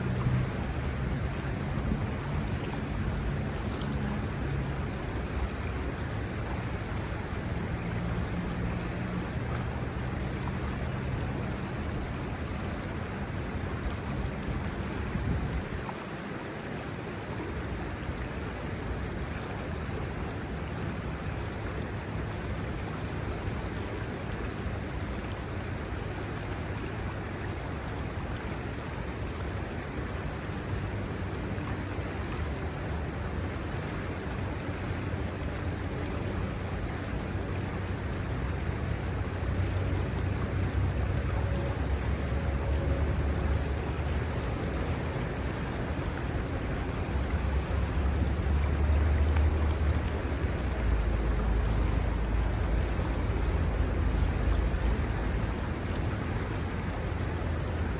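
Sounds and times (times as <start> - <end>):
river water over stones: 0.0 - 57.9.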